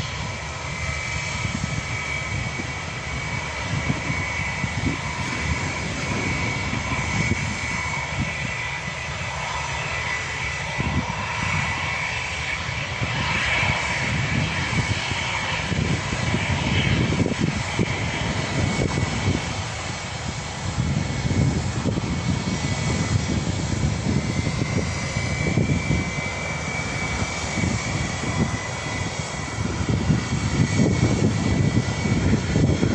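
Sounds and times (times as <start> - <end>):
jet engines rumbling and whining: 0.0 - 32.9.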